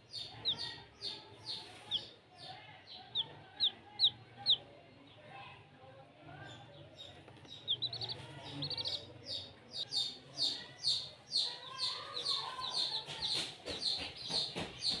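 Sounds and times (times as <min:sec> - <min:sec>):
chicks peeping: 0:00.0 - 0:05.6, 0:06.3 - 0:15.0.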